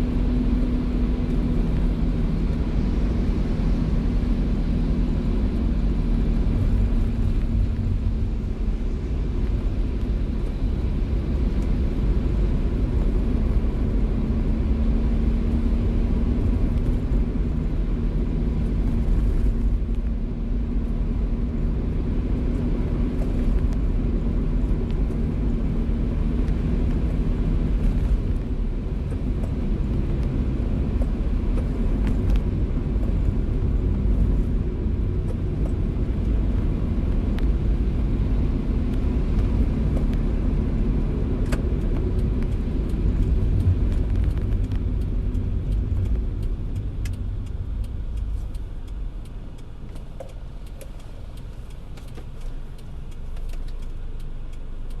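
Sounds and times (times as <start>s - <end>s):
car engine and road rumble: 0.0s - 55.0s
rain and wet tyres hiss: 0.3s - 55.0s.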